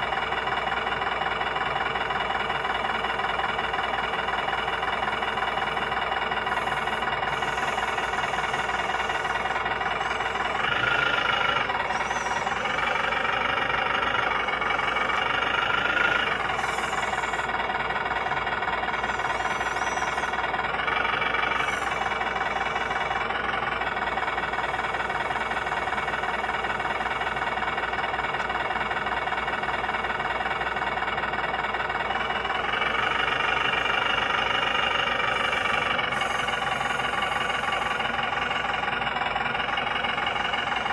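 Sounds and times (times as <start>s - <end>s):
toy truck engine idling: 0.0s - 40.9s.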